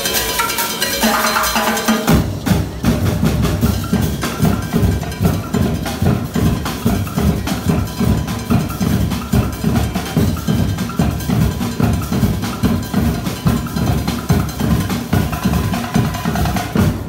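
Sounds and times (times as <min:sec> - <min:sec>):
drumline playing: 0:00.0 - 0:17.0.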